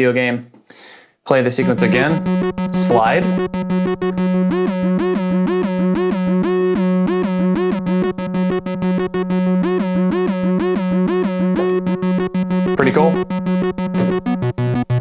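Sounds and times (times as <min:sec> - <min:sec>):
synthesizer acid bassline: 0:01.6 - 0:15.0.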